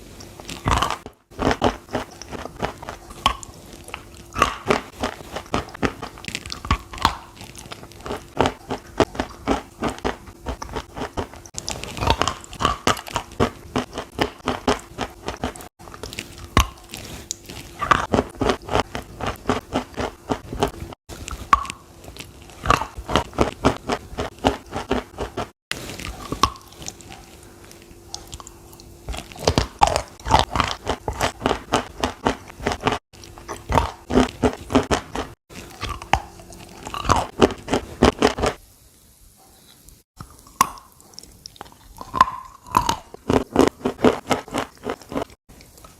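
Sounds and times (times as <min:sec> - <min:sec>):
faint steady hum: 0:00.0 - 0:45.9
chalk crunching when chewed: 0:00.4 - 0:38.6, 0:40.2 - 0:45.9.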